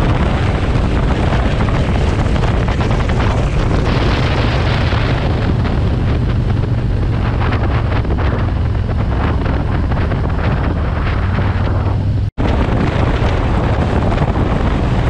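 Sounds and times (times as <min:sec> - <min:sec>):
motorcycle engine droning: 0:00.0 - 0:15.0
wind buffeting microphone: 0:00.0 - 0:15.0.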